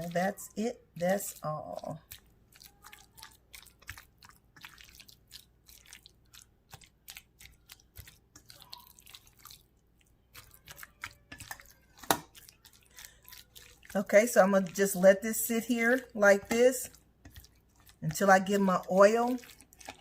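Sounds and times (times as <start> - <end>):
wet squishes of raw chicken: 0.0 - 20.0.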